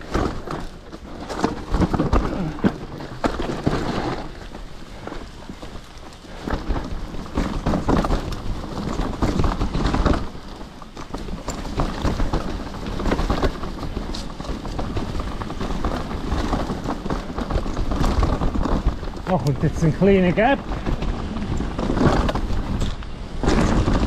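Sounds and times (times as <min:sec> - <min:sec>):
bike rattling over bumps: 0:00.0 - 0:24.0
bike tyres rolling over stones: 0:00.0 - 0:24.0.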